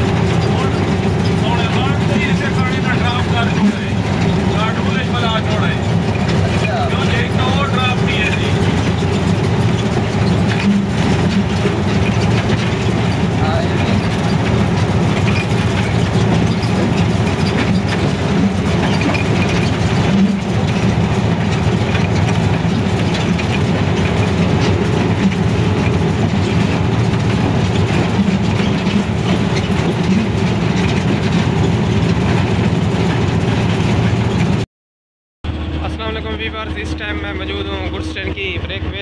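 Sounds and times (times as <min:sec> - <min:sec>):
locomotive engine drone: 0:00.0 - 0:34.6, 0:35.4 - 0:39.0
wheels clattering on rails: 0:00.0 - 0:34.6, 0:35.5 - 0:39.0.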